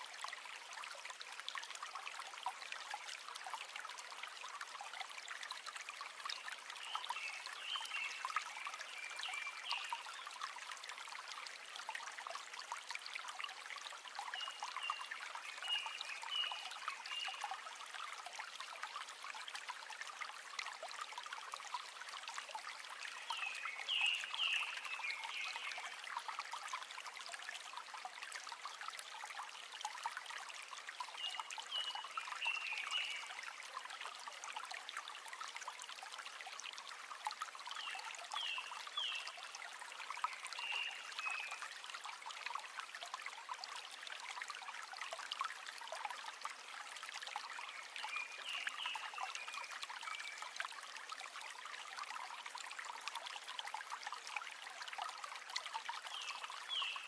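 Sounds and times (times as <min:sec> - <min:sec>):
river water trickling: 0:00.0 - 0:57.0.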